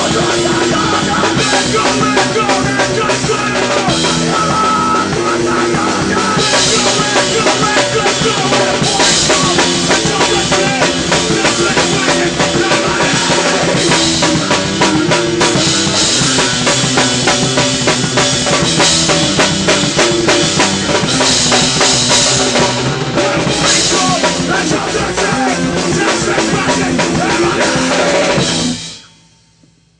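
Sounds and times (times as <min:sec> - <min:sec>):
fast dense drumming: 0:00.0 - 0:29.0
loud rock band music: 0:00.0 - 0:29.4.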